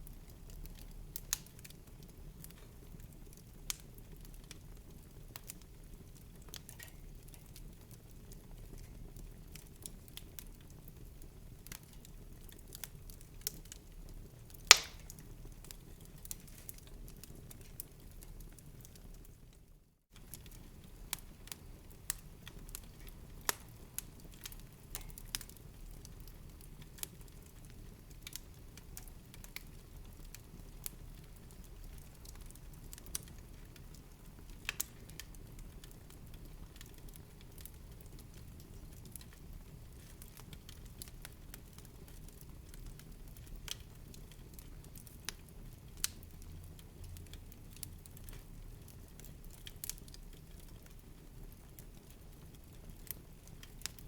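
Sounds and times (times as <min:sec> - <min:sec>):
fire crackling and popping: 0:00.0 - 0:54.0
low rumble of fire: 0:00.0 - 0:54.0.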